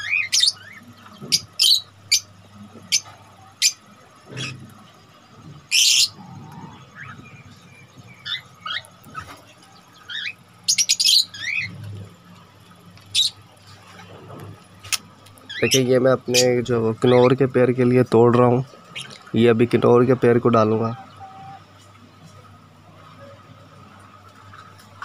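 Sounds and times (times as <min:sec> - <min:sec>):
lovebirds chirping and squawking: 0:00.0 - 0:19.5, 0:20.2 - 0:25.0.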